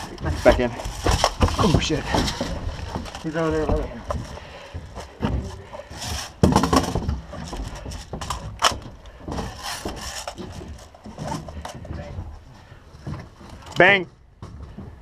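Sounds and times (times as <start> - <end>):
scuffs and knocks on plywood: 0.0 - 12.1.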